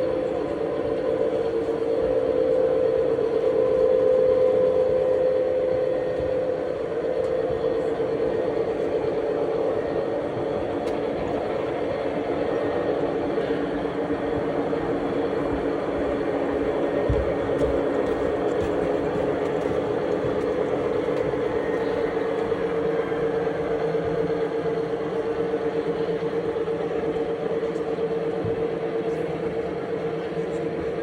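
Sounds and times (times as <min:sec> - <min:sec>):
train running: 0:00.0 - 0:31.0.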